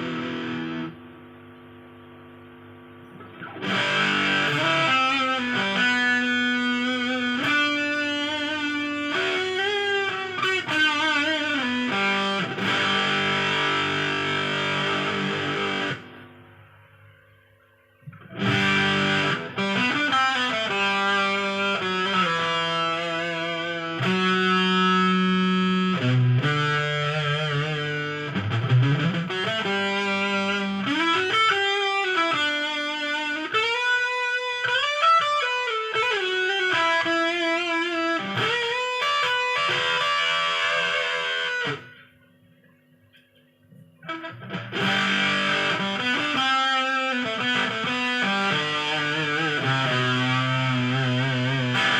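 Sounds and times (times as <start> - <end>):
distorted electric guitar: 0.0 - 51.9.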